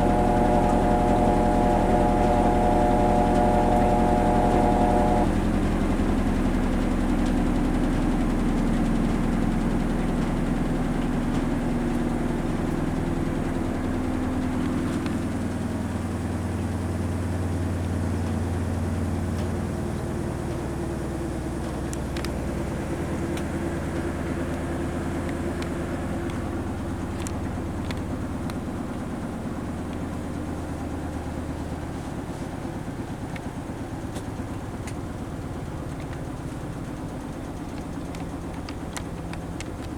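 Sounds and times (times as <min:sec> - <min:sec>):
washing machine spin hum: 0:00.0 - 0:39.9.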